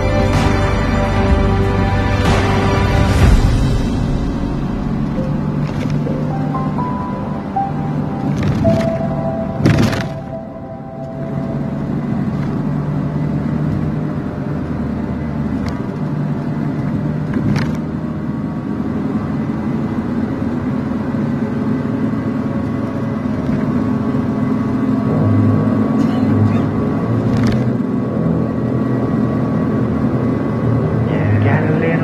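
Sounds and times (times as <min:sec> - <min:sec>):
van engine and road drone: 0:00.0 - 0:32.0.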